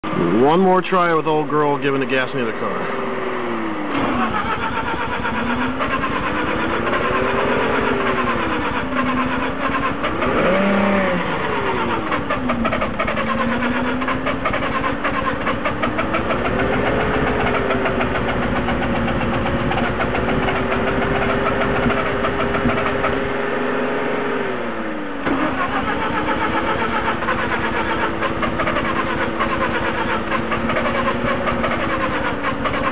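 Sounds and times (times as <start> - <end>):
car engine revving unevenly: 0.0 - 32.9.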